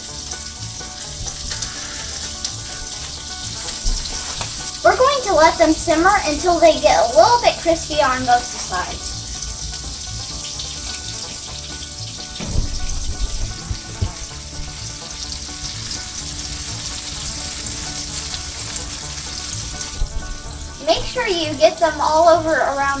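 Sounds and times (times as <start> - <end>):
mushrooms sizzling in butter: 0.0 - 23.0.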